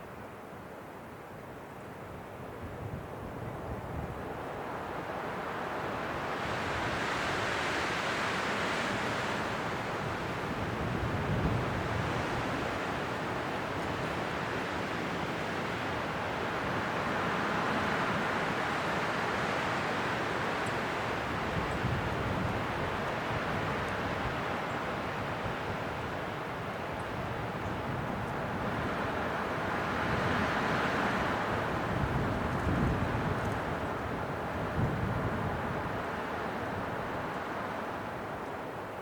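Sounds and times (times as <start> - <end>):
wind gusting: 6.0 - 38.8.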